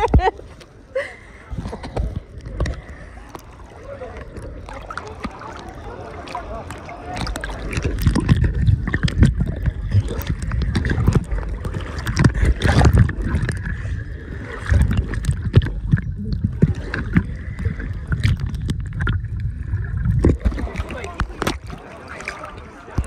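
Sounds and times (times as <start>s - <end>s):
underwater rumble of sloshing water: 0.0s - 23.0s.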